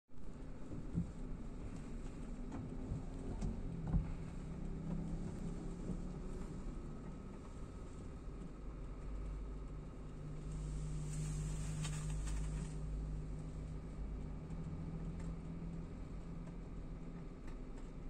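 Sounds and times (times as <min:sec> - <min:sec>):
hum: 0:00.2 - 0:18.0
muffled car wash rumble: 0:00.2 - 0:18.0.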